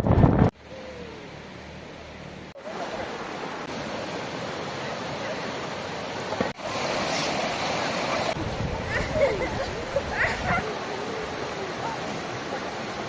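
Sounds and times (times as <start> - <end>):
flowing river water: 0.6 - 13.0.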